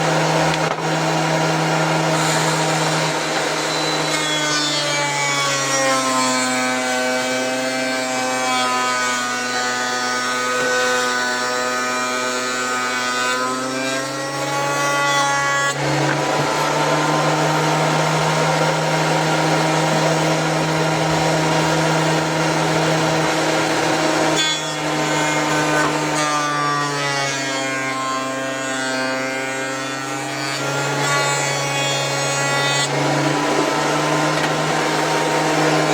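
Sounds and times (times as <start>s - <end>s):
thickness planer running: 0.0s - 35.9s.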